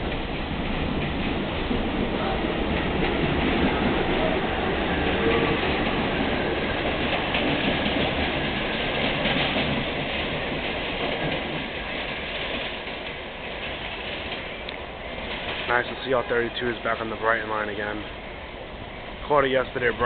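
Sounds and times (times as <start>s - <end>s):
wheels clacking over rail joints: 0.0s - 18.1s
subway train running on tracks: 0.0s - 20.0s.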